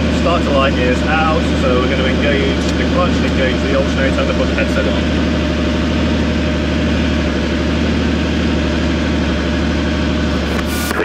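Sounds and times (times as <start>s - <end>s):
helicopter piston engine running: 0.0s - 11.0s.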